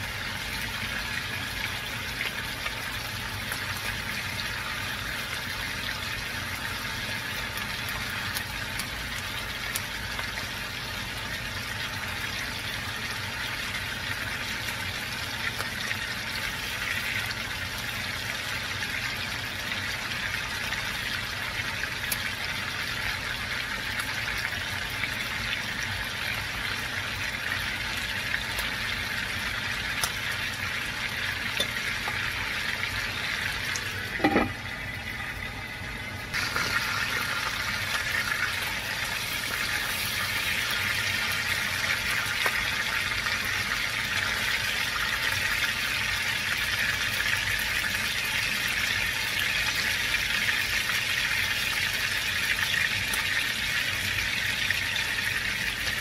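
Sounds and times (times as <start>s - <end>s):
meat sizzling in hot oil: 0.0s - 56.0s.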